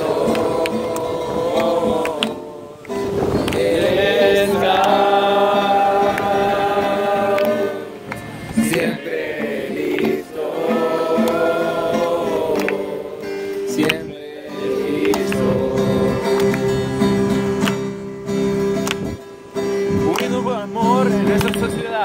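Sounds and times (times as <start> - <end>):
choir singing long held notes: 0.0 - 20.0.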